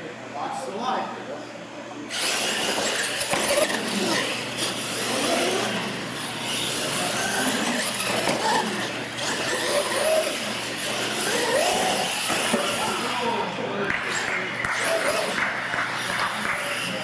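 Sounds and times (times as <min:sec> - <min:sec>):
toy truck motors whining: 0:02.1 - 0:17.0.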